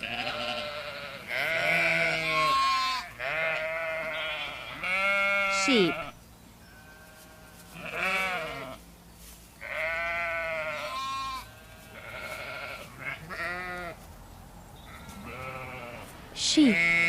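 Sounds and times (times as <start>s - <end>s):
sheep bleating: 0.0s - 8.8s, 9.6s - 14.0s, 14.8s - 17.0s.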